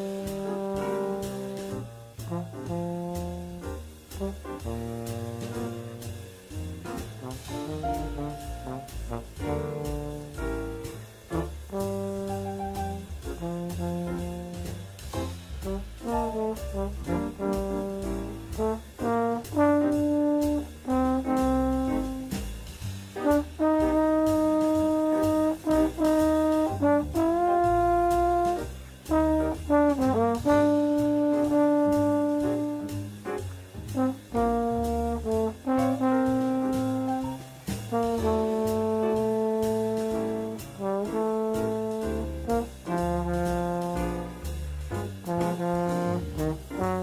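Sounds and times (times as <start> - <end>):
slide trombone playing jazz: 0.0 - 47.0
walking bass line: 0.0 - 47.0.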